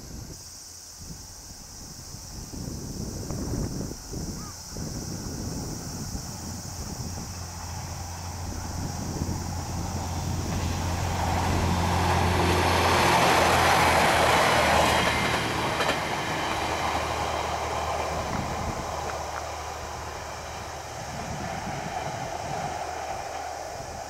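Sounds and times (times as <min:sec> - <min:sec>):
train passing: 0:00.5 - 0:24.0.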